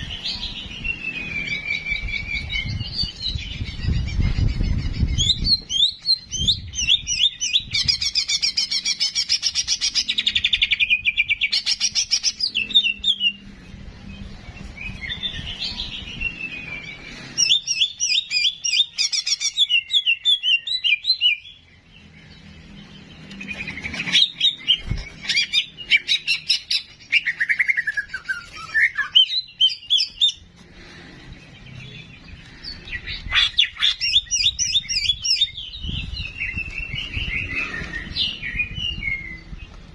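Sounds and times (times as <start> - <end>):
bulbul singing trills: 0.0 - 30.6, 31.2 - 39.9.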